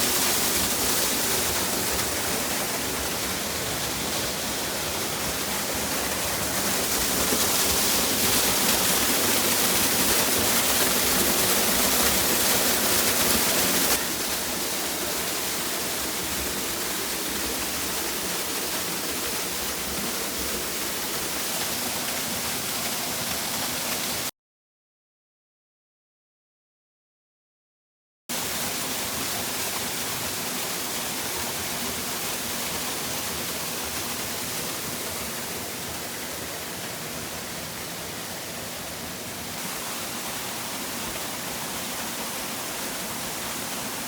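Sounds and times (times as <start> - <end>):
waterfall rushing: 0.0 - 24.3, 28.4 - 44.0.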